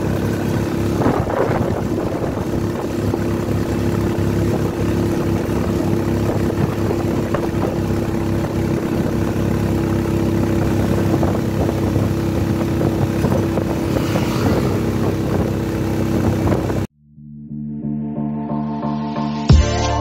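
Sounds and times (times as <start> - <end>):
road and wind noise: 0.0 - 16.9
vehicle engine running: 0.0 - 16.9.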